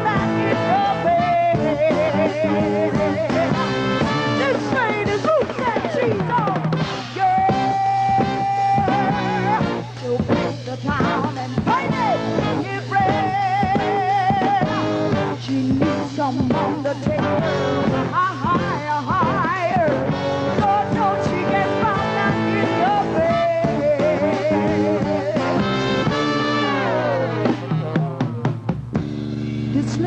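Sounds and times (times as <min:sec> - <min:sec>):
bass: 0:00.0 - 0:30.0
drums: 0:00.0 - 0:30.0.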